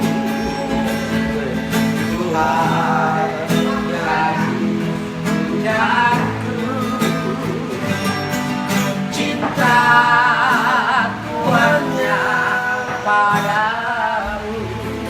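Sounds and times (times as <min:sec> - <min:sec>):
old man singing: 0:00.0 - 0:15.0
strummed acoustic guitar: 0:00.0 - 0:15.0.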